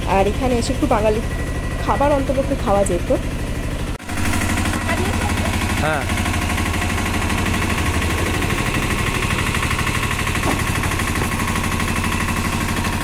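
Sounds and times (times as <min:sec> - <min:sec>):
auto-rickshaw engine idling: 0:00.0 - 0:13.0.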